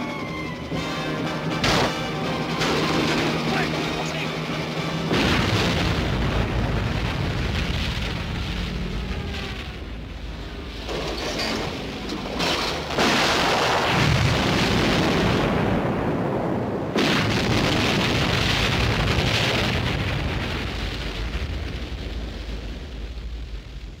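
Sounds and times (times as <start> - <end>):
explosions with deep rumble: 0.0 - 24.0.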